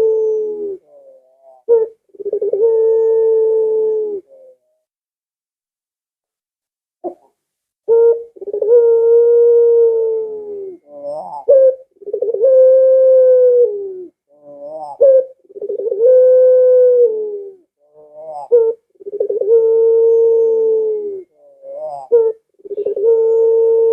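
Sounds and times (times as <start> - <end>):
dove cooing: 0.0 - 4.8, 7.9 - 23.9.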